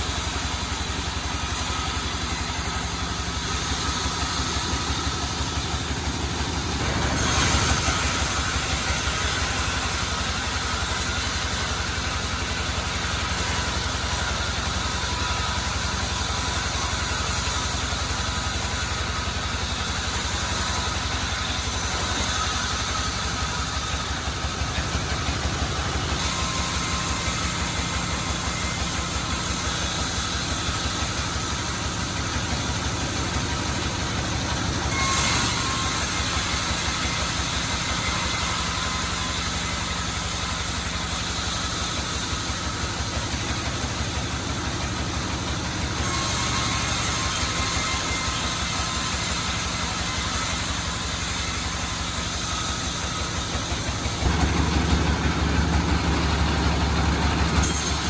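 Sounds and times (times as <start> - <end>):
sawmill engine pulsing: 0.0 - 58.0.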